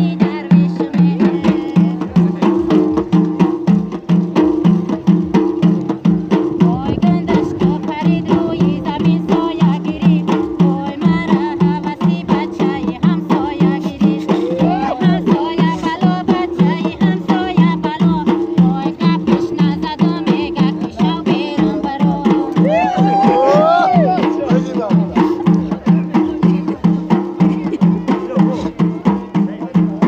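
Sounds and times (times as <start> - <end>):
frame drums played by hand: 0.0 - 30.0.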